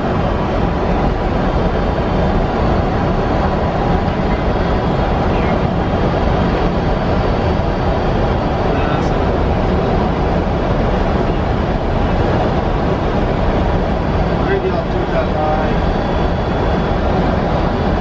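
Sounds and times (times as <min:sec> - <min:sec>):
airflow and engine rush: 0:00.0 - 0:18.0.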